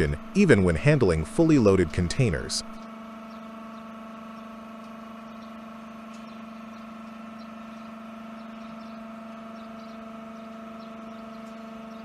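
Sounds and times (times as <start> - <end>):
machine humming steadily: 0.0 - 12.0.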